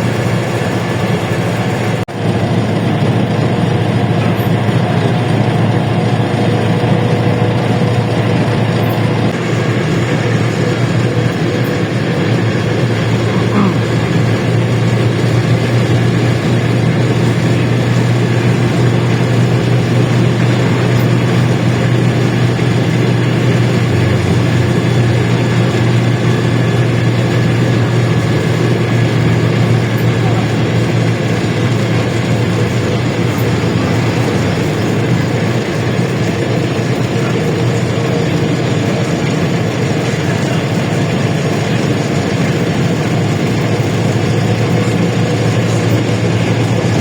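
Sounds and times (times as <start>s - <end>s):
bus engine droning: 0.0s - 47.0s
road and body noise: 0.0s - 47.0s.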